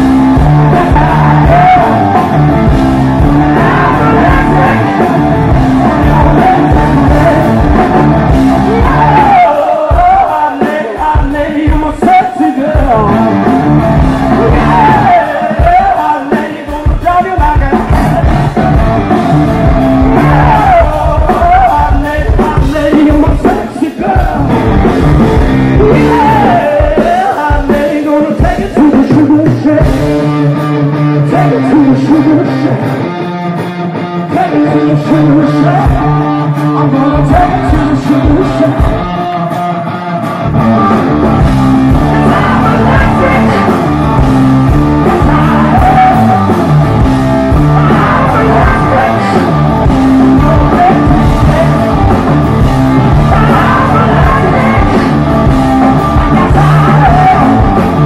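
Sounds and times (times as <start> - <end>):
man singing: 0.0 - 19.1, 20.0 - 33.2, 34.1 - 39.8, 41.8 - 58.0
bass guitar: 0.0 - 58.0
distorted electric guitar: 0.0 - 58.0
drums: 0.0 - 58.0.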